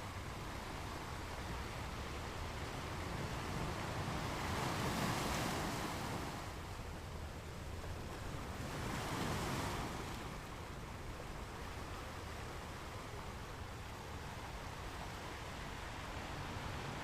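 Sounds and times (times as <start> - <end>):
ocean waves breaking on shore: 0.1 - 17.0.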